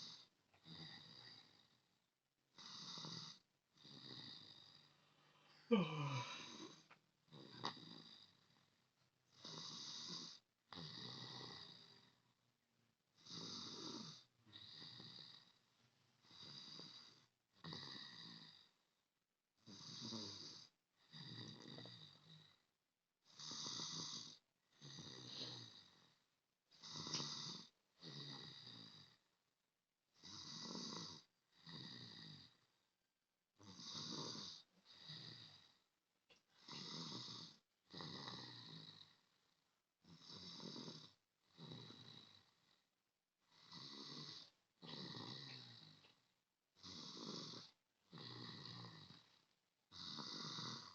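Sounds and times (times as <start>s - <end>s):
person snoring: 0.0s - 1.9s, 2.5s - 8.7s, 9.3s - 12.2s, 13.2s - 15.6s, 16.2s - 18.9s, 19.6s - 22.6s, 23.2s - 29.3s, 30.2s - 32.8s, 33.6s - 42.8s, 43.5s - 50.9s.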